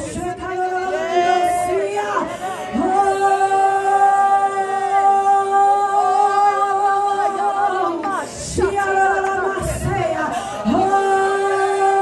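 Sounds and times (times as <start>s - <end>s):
faint voices singing and praying: 0.0s - 12.0s.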